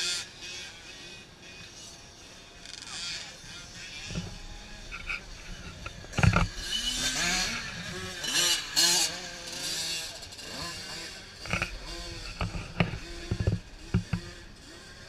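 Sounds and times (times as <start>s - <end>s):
motocross bikes revving past: 0.0s - 15.0s.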